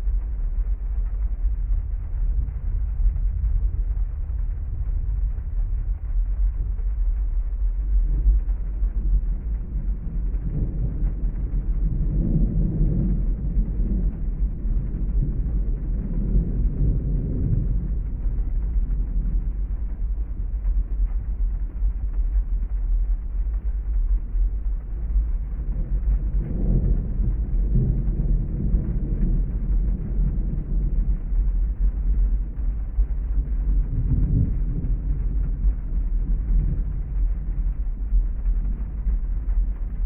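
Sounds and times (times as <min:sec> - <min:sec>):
deep steady rumble: 0:00.0 - 0:40.0
distant thunder rolls: 0:00.0 - 0:40.0.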